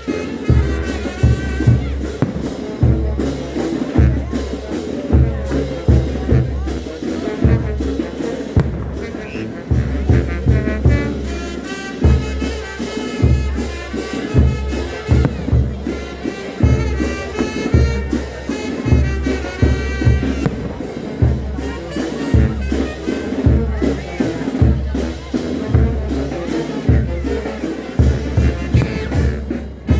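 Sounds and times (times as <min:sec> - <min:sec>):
bass drum beat: 0:00.0 - 0:29.9
brass band playing: 0:00.0 - 0:29.9.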